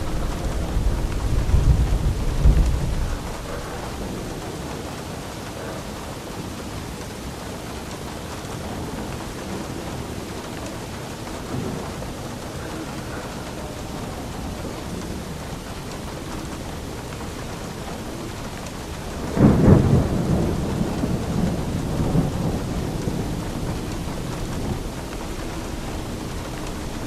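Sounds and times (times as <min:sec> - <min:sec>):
steady rain: 0:00.0 - 0:27.0
thunder clap rumbling: 0:00.0 - 0:27.0.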